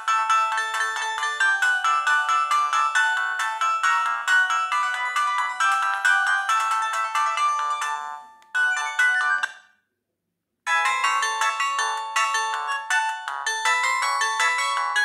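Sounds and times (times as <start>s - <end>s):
mobile phone ringtone melody: 0.0s - 9.7s, 10.7s - 15.0s.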